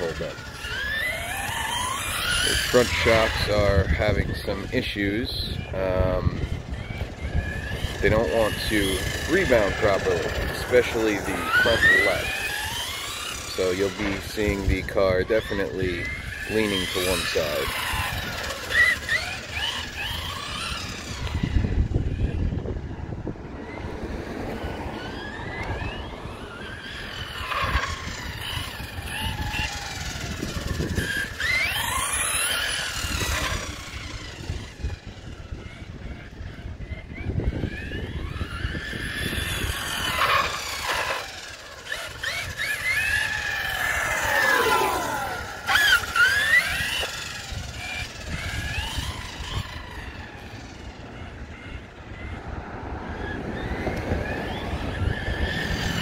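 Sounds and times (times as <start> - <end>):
rc truck motor whining: 0.0 - 56.0.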